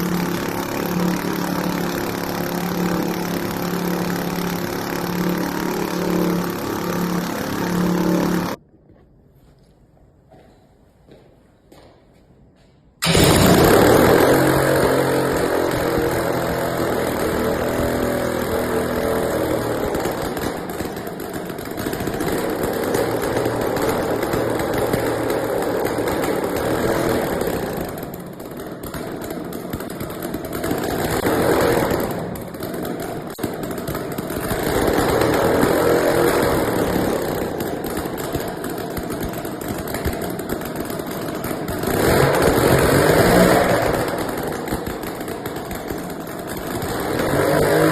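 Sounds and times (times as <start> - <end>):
small engine running loud: 0.0 - 8.6, 13.0 - 47.9.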